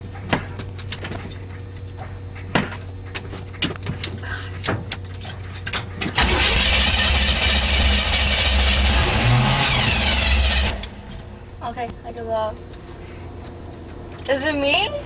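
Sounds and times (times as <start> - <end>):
low steady hum: 0.0 - 15.0
truck engine starting and running: 2.4 - 15.0.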